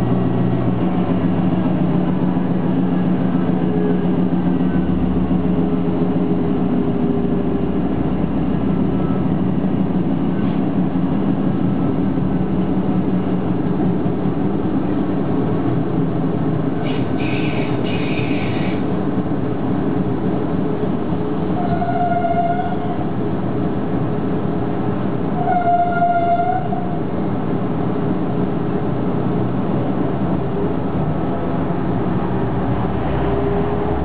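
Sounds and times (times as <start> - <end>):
train diesel engine hum: 0.0 - 34.0
train wheels rumbling on track: 0.0 - 34.0.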